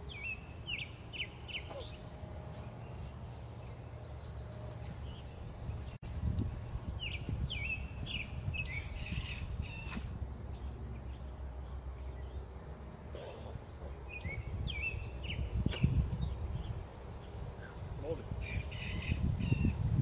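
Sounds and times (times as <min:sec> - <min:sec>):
bird chirping: 0:00.0 - 0:19.8
steady low rumble: 0:00.0 - 0:20.0.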